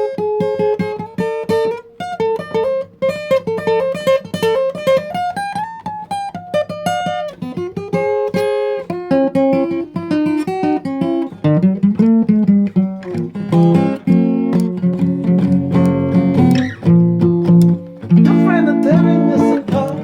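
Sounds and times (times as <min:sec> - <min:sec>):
acoustic guitar melody: 0:00.0 - 0:20.0.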